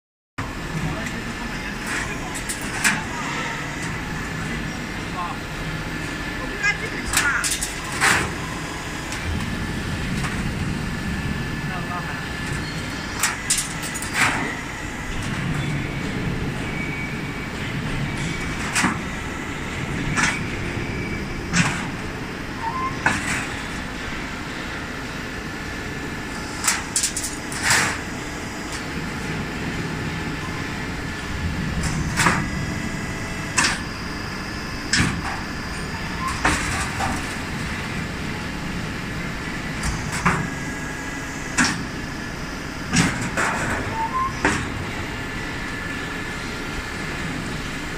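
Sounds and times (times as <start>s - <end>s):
steady machine hum: 0.4s - 47.9s.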